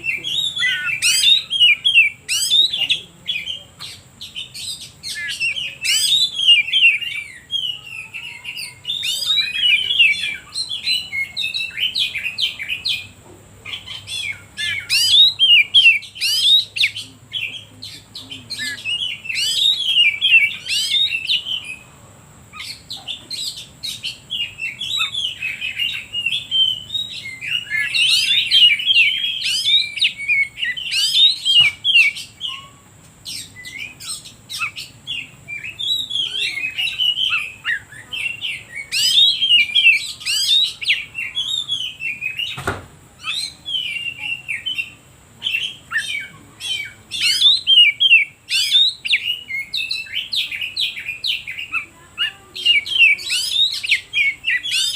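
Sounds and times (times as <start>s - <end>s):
bird singing rapid chirps and trills: 0.0s - 54.9s.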